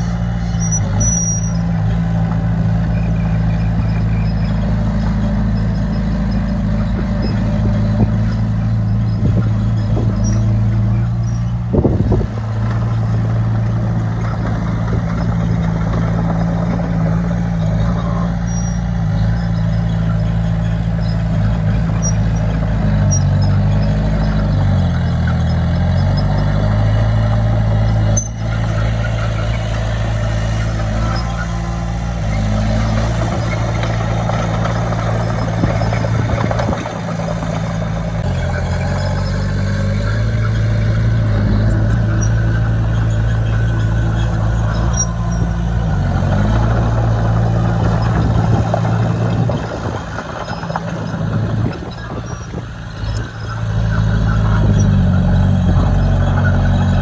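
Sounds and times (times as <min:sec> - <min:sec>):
bulldozer diesel engine: 0:00.0 - 0:57.0
rattling clatter: 0:00.0 - 0:57.0.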